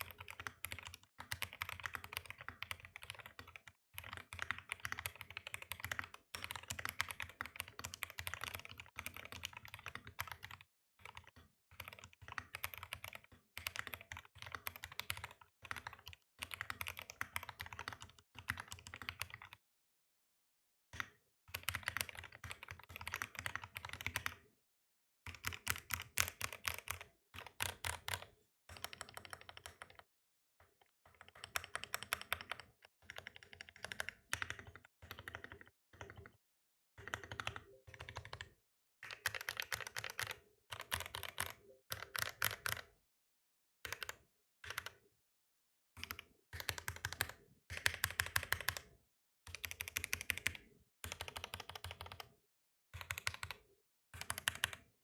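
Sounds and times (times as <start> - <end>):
typing on mechanical keyboard: 0.0 - 19.6, 21.5 - 24.4, 25.3 - 36.4, 37.0 - 43.0, 43.9 - 45.0, 46.0 - 48.9, 49.5 - 52.4, 53.0 - 54.9.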